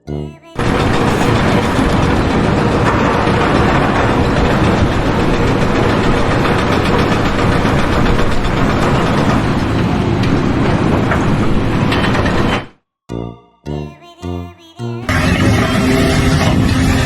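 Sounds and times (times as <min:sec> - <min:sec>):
heavy engine running: 0:00.4 - 0:12.7, 0:15.1 - 0:17.0.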